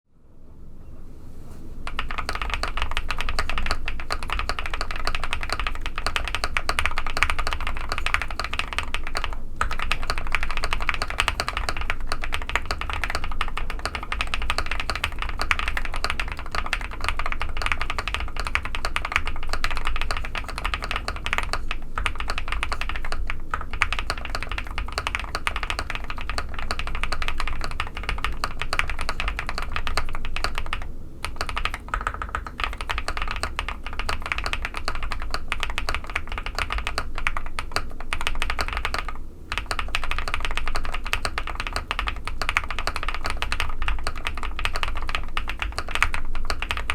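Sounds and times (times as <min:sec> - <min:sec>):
fast typing on mechanical keyboard: 0:01.8 - 0:46.9.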